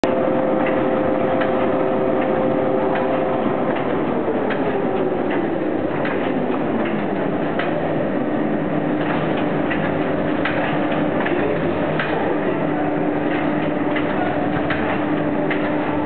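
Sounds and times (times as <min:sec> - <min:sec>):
meat-tying machine whirring: 0:00.0 - 0:16.0.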